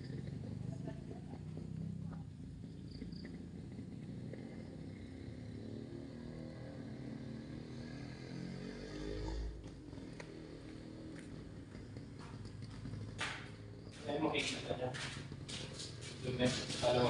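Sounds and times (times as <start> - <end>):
faint vehicle engine running: 0.0 - 17.0.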